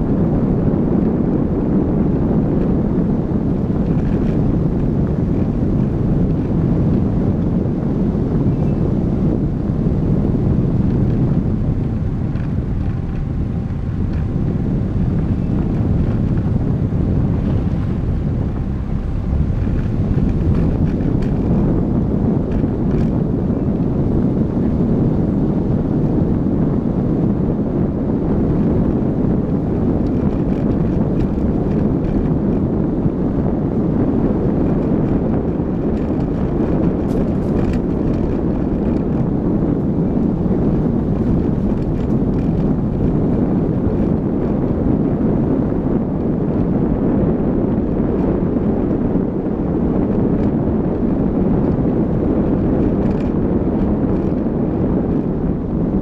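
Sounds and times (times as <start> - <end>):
car rumbling on gravel road: 0.0 - 56.0
wind buffeting microphone: 0.0 - 56.0.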